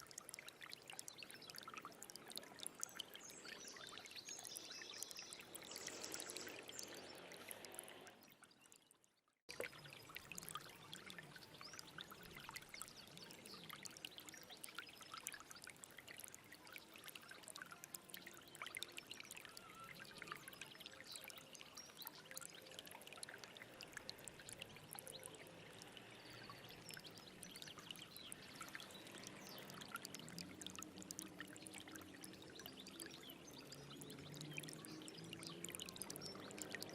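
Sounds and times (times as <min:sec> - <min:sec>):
stream water flowing and splashing: 0:00.0 - 0:36.9.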